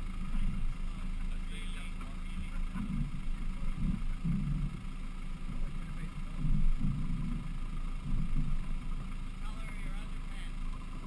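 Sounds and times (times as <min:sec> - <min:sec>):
muffled engine running at low revs: 0:00.0 - 0:11.0.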